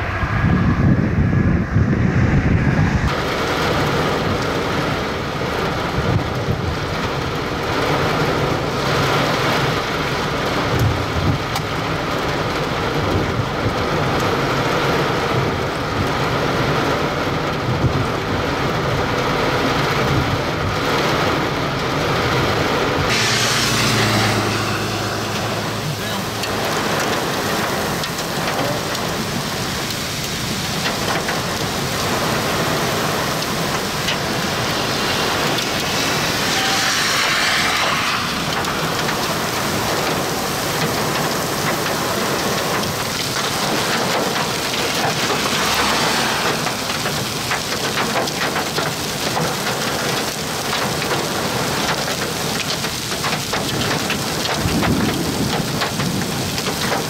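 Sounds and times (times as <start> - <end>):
wind gusts: 0.0 - 57.0
heavy rain hissing: 2.2 - 57.0.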